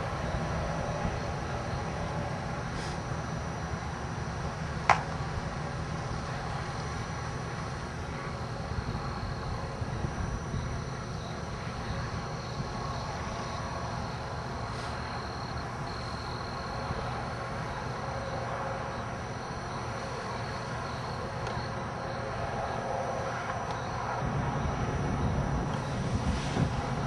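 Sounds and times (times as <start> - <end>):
faint high whine: 0.0 - 27.0
vehicle rumble: 0.0 - 27.0.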